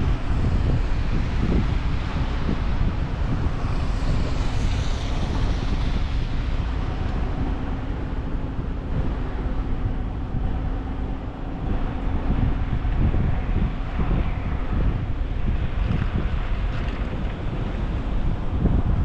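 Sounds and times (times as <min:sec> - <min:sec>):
traffic noise: 0:00.0 - 0:19.0
wind rumbling on microphone: 0:00.0 - 0:19.0.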